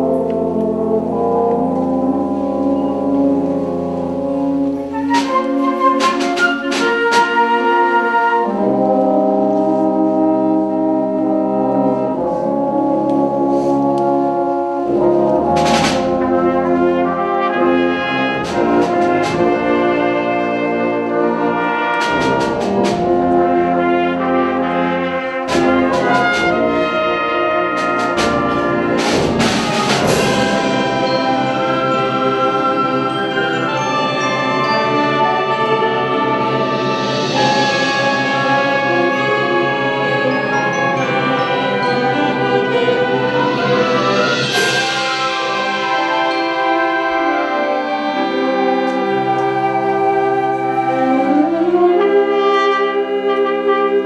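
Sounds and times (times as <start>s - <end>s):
wind band playing: 0.0s - 54.0s.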